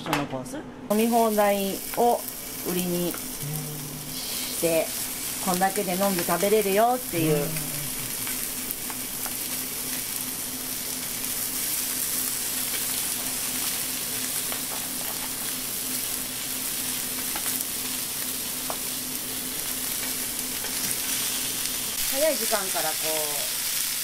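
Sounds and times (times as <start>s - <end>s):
chicken sizzling in oil: 4.1s - 24.0s.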